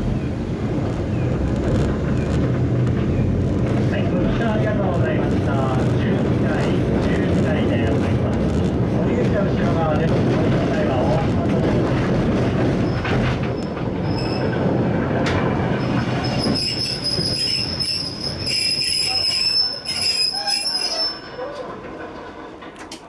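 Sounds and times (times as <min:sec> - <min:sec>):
steel wheels rumbling on rails: 0:00.0 - 0:23.0.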